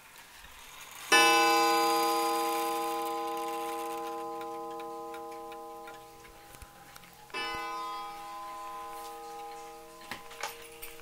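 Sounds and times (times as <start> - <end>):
clock chime: 1.1 - 11.0
clock ticking: 1.1 - 11.0.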